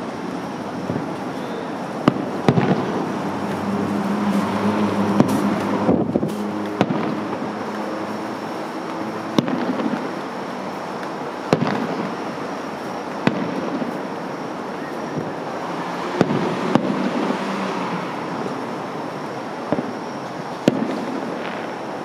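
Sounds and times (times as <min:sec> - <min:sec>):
firework bangs: 0:00.0 - 0:22.0.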